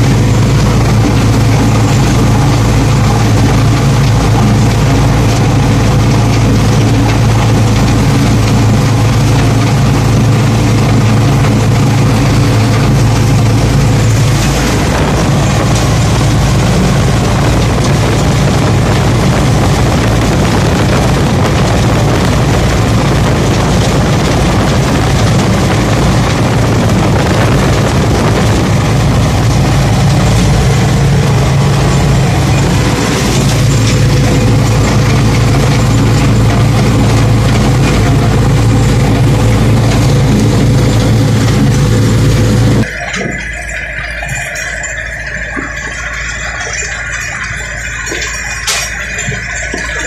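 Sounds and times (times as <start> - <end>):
chopper cutting dry stalks: 0.0 - 43.3
tractor diesel engine under load: 0.0 - 50.0.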